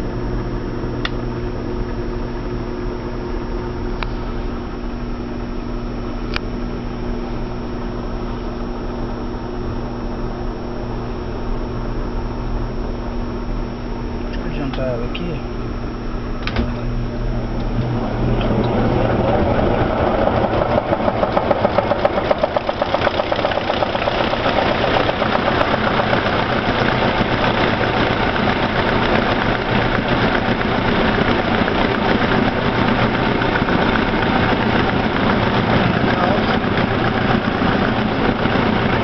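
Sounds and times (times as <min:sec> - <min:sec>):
washing machine spinning: 0:00.0 - 0:39.0.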